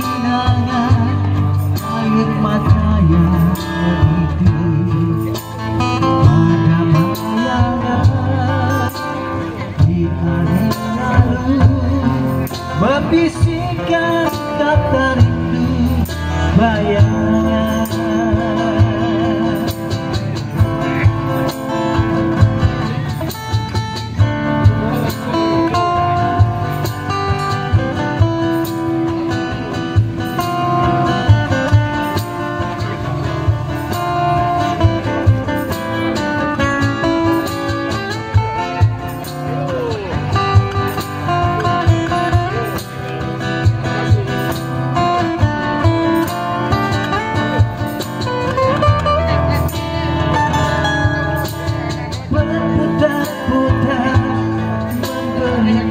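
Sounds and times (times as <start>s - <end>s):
acoustic guitars: 0.0s - 55.9s
hand drum beat: 0.0s - 55.9s
man singing with vibrato: 0.0s - 55.9s.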